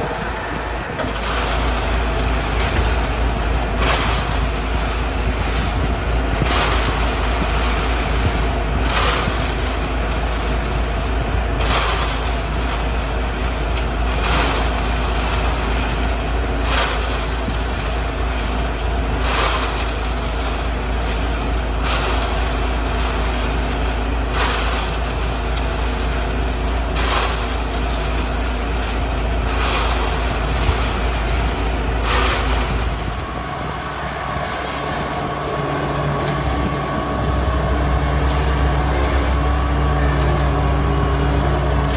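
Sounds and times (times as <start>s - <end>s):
concrete mixer engine running: 0.0s - 41.9s.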